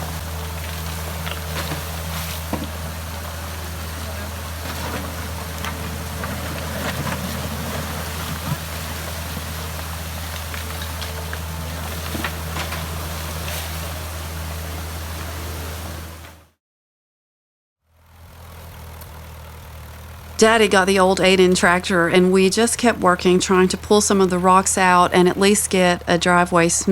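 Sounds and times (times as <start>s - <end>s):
heavy machine engine running: 0.0s - 16.6s, 17.9s - 26.9s.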